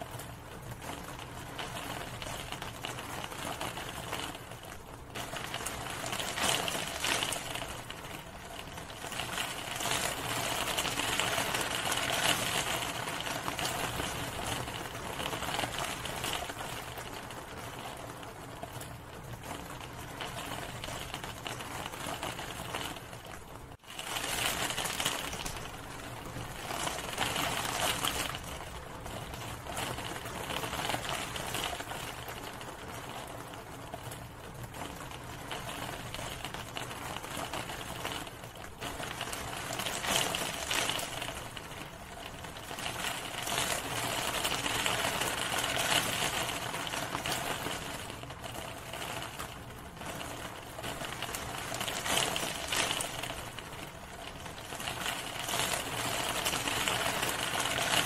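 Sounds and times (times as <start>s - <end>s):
rain tapping on a hard surface: 0.0s - 58.0s.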